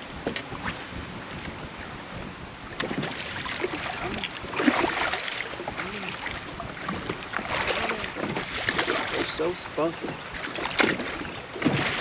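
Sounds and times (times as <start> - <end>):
small waves lapping against boat: 0.0 - 12.0
wind: 0.0 - 12.0
knocks and splashes at boat side: 0.1 - 1.6, 2.7 - 12.0.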